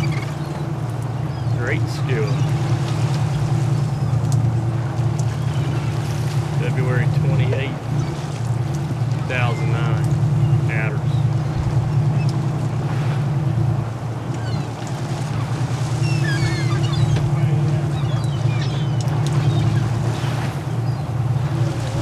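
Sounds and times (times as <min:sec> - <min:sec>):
boat engine droning: 0:00.0 - 0:22.0
sea water noise: 0:00.0 - 0:22.0
wind: 0:00.0 - 0:22.0.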